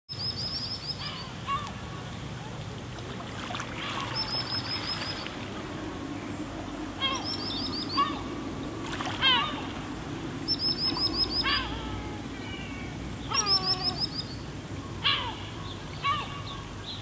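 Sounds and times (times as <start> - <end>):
birds calling: 0.2 - 17.0.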